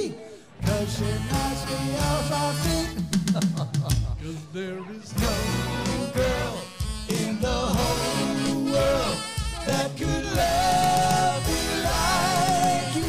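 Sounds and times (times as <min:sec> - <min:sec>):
person singing: 0:00.0 - 0:03.1, 0:04.2 - 0:13.0
live soul band playing: 0:00.6 - 0:03.3, 0:05.1 - 0:13.0.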